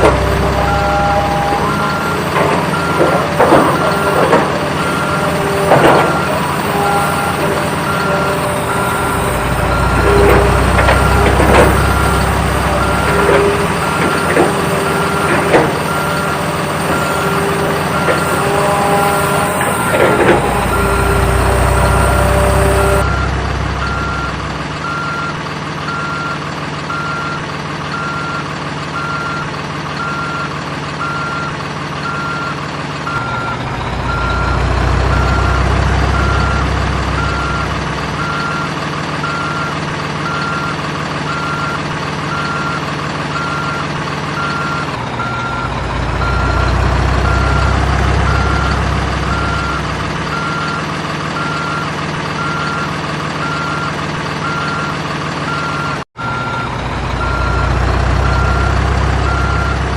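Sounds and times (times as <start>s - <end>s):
reversing beep: 0.0s - 50.8s, 51.4s - 59.9s
simulated diesel engine: 0.0s - 59.9s.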